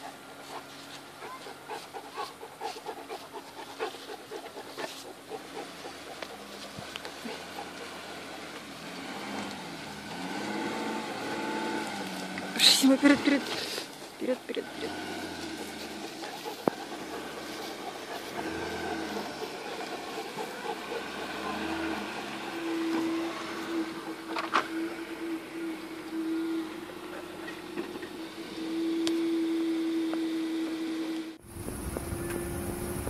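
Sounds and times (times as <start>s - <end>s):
suv engine running: 0.0s - 33.0s.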